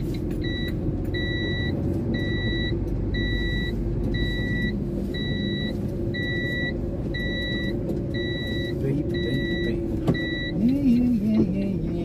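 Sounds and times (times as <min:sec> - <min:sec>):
truck diesel engine rumbling: 0:00.0 - 0:12.0
reversing alarm beeping: 0:00.4 - 0:10.6.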